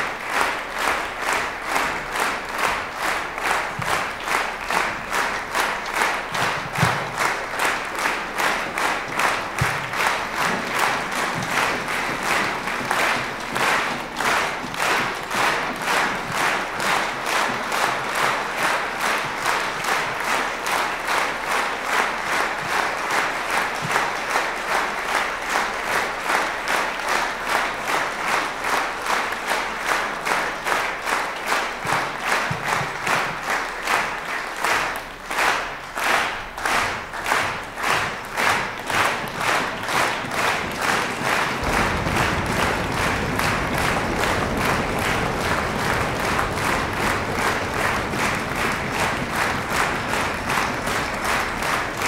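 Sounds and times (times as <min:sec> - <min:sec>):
audience clapping in unison: 0:00.0 - 0:52.0.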